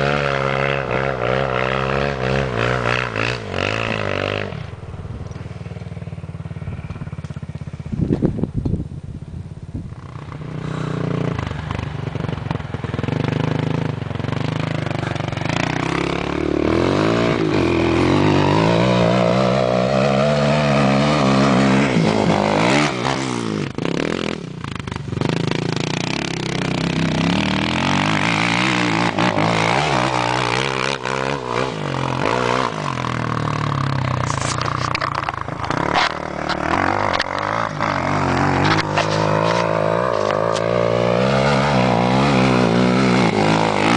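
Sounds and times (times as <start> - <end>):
quad engine revving: 0.0 - 8.0, 10.0 - 43.9.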